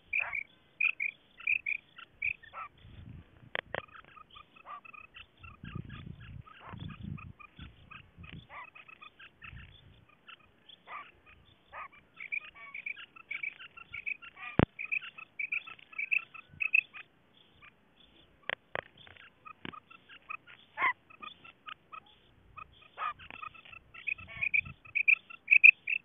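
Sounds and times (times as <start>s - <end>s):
quail chirping: 0.0s - 26.0s.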